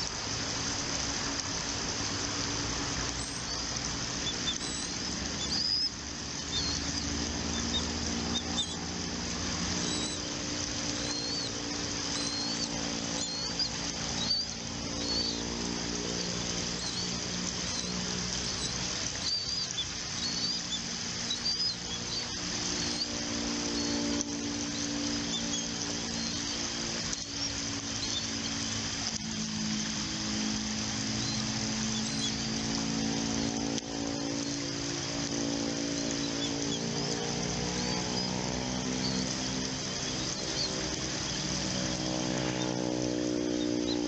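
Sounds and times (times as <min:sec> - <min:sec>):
low hum: 0:00.0 - 0:44.0
bird chirping: 0:03.1 - 0:44.0.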